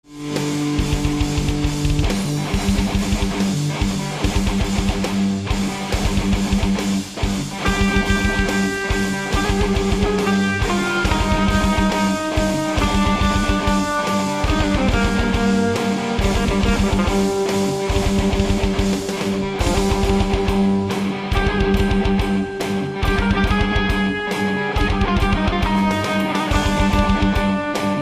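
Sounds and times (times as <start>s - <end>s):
electric guitar notes: 0.0s - 28.0s
rock drum beat: 0.0s - 28.0s.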